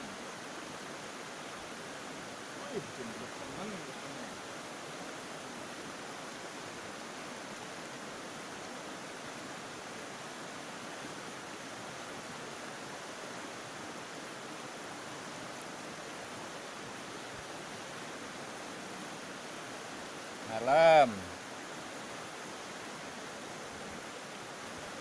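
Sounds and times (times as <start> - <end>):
river running over stones: 0.0 - 25.0.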